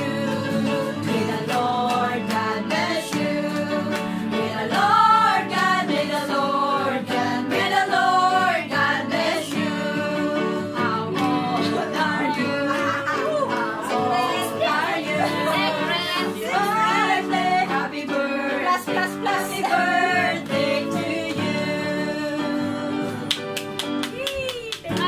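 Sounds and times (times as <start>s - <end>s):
women singing together: 0.0s - 23.4s.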